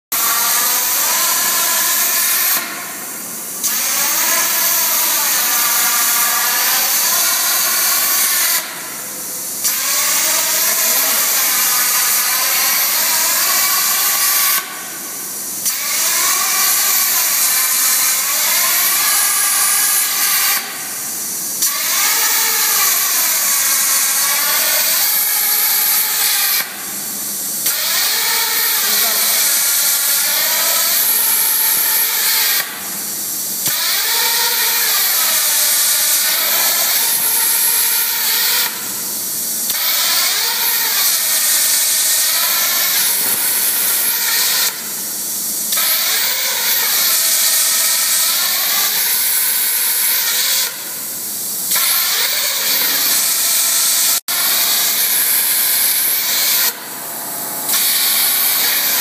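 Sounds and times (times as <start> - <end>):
plasma cutter arc hissing: 0.2 - 59.0.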